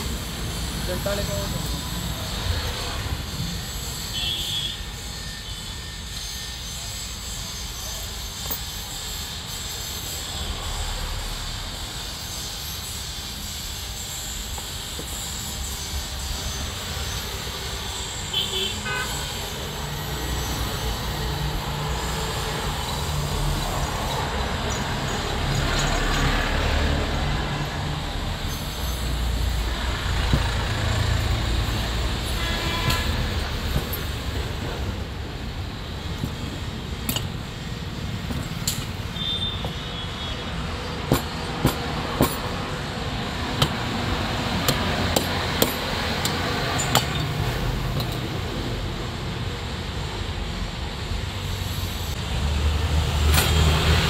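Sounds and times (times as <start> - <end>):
low rumble of vehicle engines: 0.0 - 54.0.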